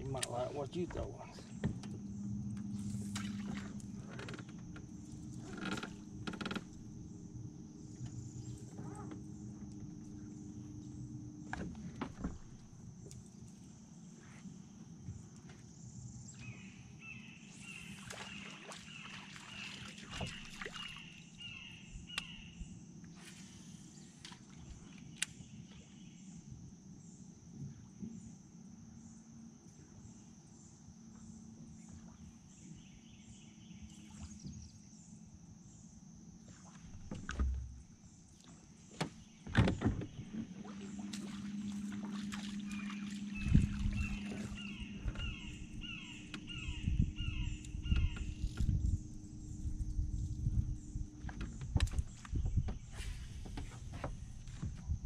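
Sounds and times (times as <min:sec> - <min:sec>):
high-pitched insect chorus: 0:00.0 - 0:37.0, 0:37.8 - 0:54.7
river: 0:00.0 - 0:55.0.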